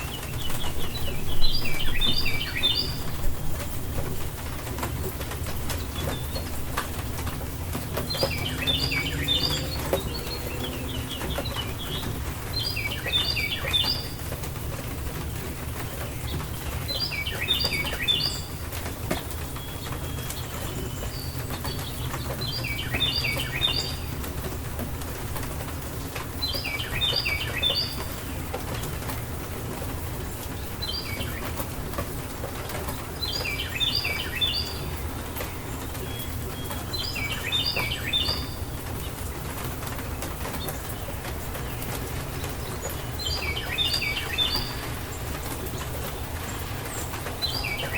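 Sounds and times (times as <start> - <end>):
rainstorm noise: 0.0 - 47.9.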